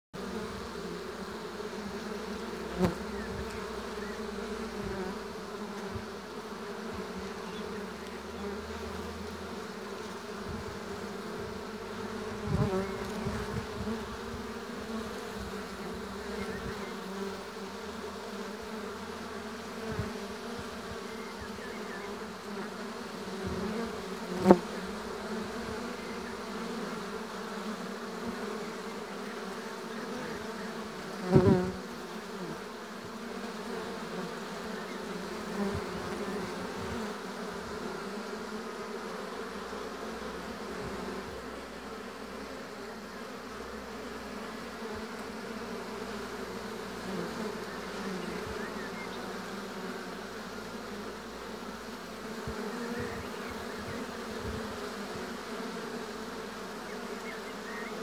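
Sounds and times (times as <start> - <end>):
honeybees buzzing: 0.2 - 58.0.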